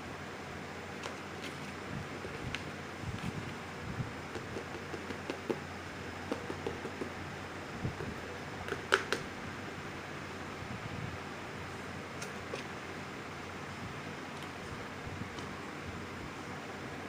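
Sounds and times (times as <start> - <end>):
fan hum: 0.0 - 17.0.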